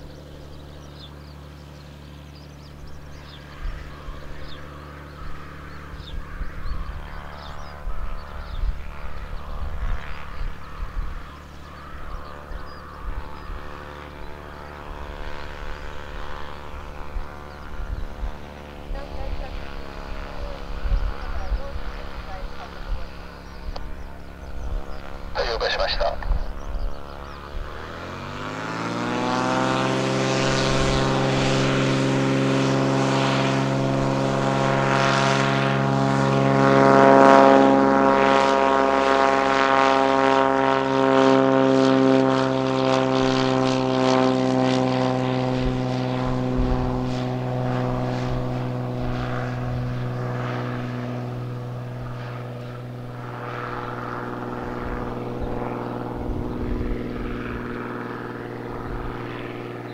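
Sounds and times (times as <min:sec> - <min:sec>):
piston aircraft engine and propeller: 0:00.0 - 0:59.9.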